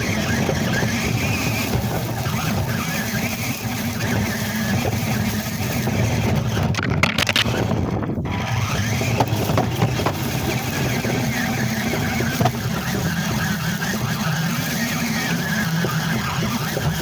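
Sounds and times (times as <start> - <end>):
rc truck motor whine: 0.0 - 17.0.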